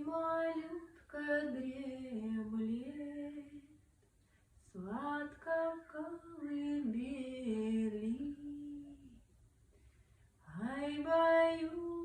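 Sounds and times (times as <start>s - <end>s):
woman singing lullaby unaccompanied: 0.0s - 3.9s, 4.7s - 9.2s, 10.4s - 12.0s.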